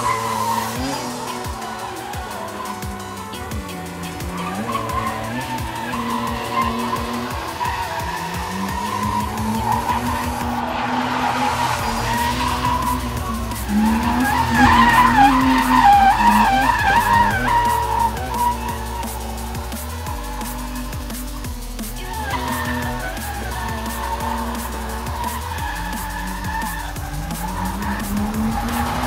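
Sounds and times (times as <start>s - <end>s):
car engine at high revs: 0.0s - 29.0s
tyres skidding and squealing: 0.0s - 29.0s.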